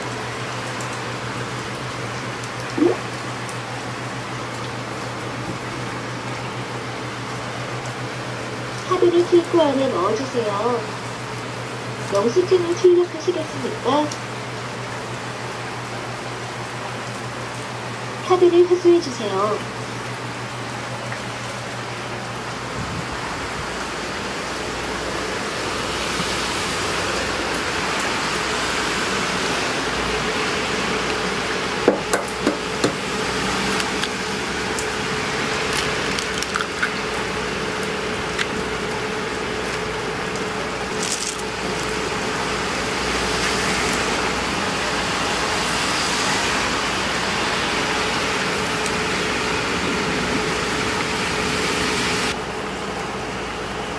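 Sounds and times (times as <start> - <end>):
water heating hiss: 0.0 - 53.9.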